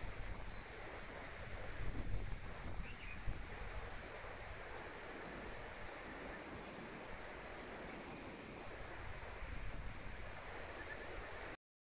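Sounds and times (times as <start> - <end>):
wind buffeting microphone: 0.0 - 7.6, 8.5 - 11.5.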